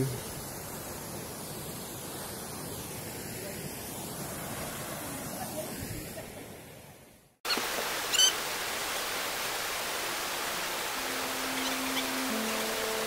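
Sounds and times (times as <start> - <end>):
rushing water: 0.0 - 6.9, 7.5 - 13.0.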